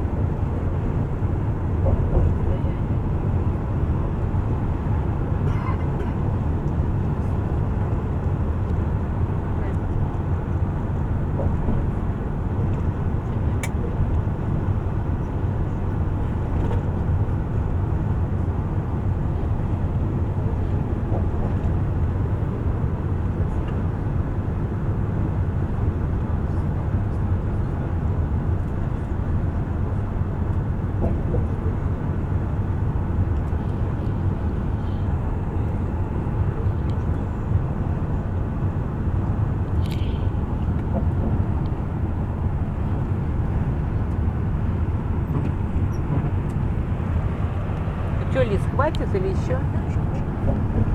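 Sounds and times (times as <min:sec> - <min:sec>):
bus engine and tyre rumble: 0:00.0 - 0:50.9.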